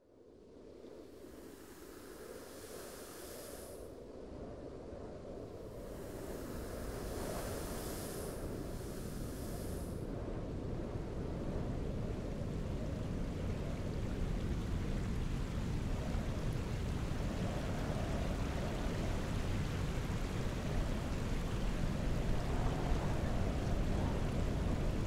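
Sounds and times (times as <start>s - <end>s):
wind blowing across microphone: 0.0s - 25.0s.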